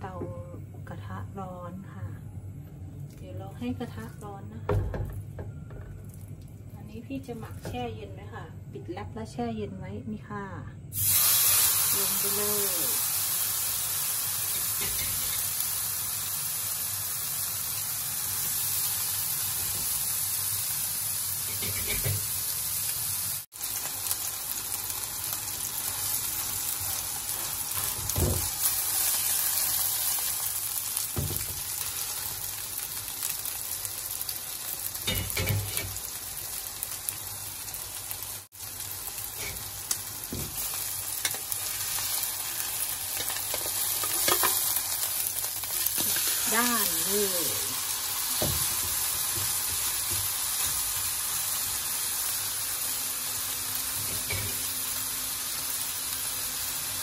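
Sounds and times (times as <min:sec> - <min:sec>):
steak sizzling in a frying pan: 0:10.9 - 0:57.0.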